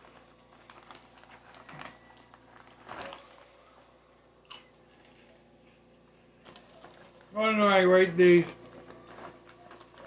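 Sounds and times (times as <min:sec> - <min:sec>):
potato chips crunched and chewed: 0:00.0 - 0:10.0.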